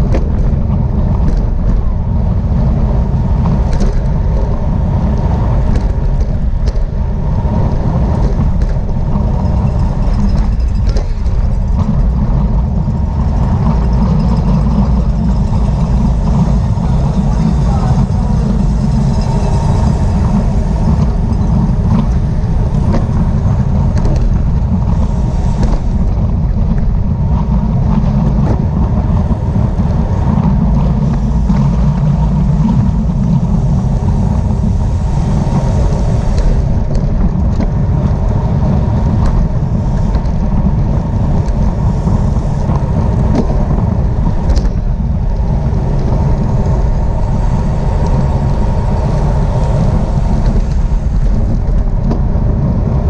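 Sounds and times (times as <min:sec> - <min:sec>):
tyre and road noise: 0:00.0 - 0:53.0
wind buffeting microphone: 0:00.0 - 0:53.0.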